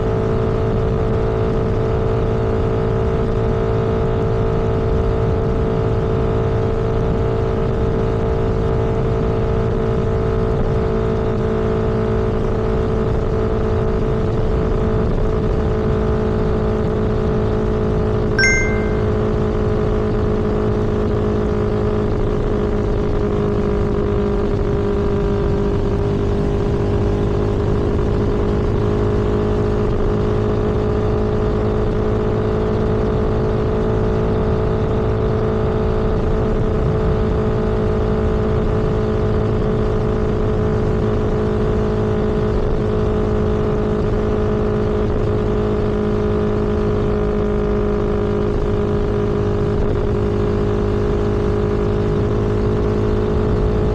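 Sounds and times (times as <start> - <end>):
road and wind noise: 0.0 - 18.3, 20.4 - 53.9.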